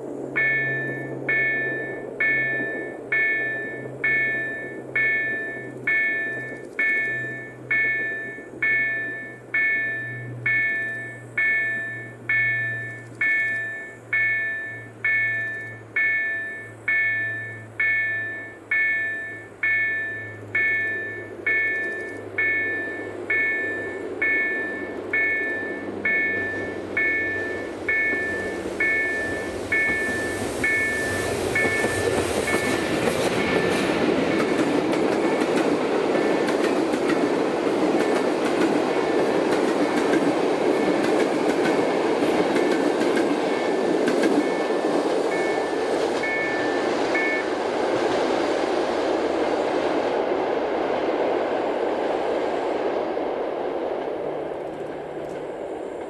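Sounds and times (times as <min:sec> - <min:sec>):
train rumbling past: 0:00.0 - 0:56.0
level crossing warning bell: 0:00.3 - 0:48.8.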